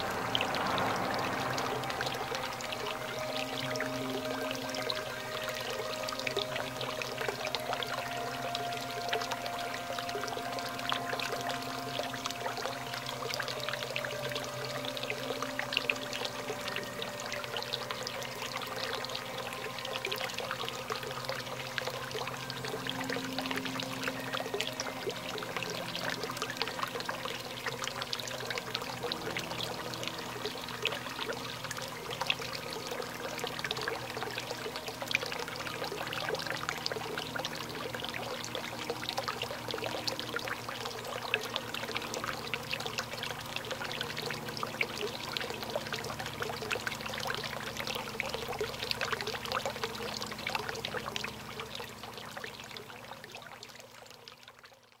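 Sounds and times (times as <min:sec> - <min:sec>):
low steady hum: 0:00.0 - 0:54.8
fountain water splashing: 0:00.0 - 0:55.0.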